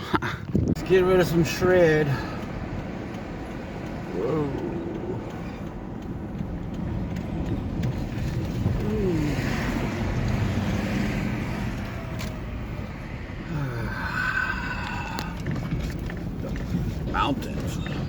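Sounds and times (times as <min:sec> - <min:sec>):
road rumble: 0:00.0 - 0:18.0
vehicle engine running: 0:00.5 - 0:18.0.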